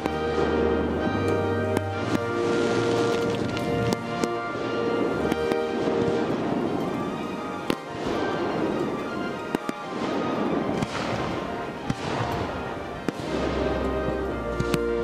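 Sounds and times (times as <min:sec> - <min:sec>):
fireworks bursting bangs: 0:00.0 - 0:15.0
music playing: 0:00.0 - 0:15.0.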